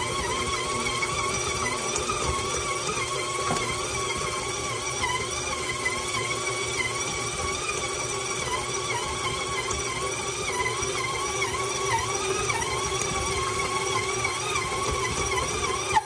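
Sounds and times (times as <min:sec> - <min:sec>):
stand mixer motor whining: 0:00.0 - 0:16.0.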